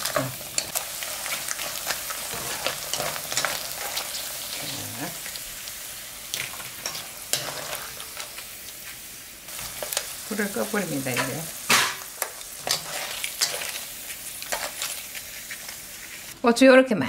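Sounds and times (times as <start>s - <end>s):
oil sizzling and crackling: 0.0s - 16.4s.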